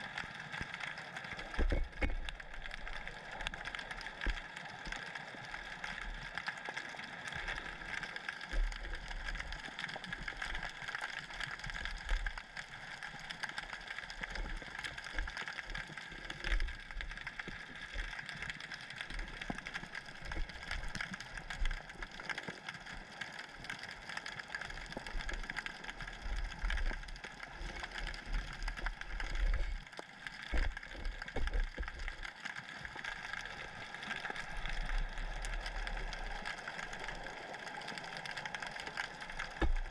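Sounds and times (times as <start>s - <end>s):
underwater hiss and drone: 0.0s - 39.9s.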